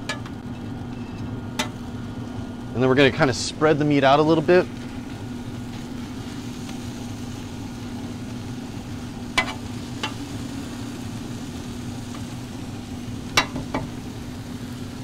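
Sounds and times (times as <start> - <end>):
steady low hum: 0.0 - 15.0
meat and onions sizzling: 1.4 - 15.0.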